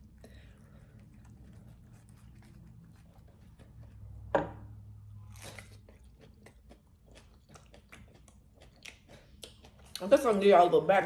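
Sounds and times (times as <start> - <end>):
wet chewing with mouth clicks: 0.0 - 4.3, 5.2 - 10.1.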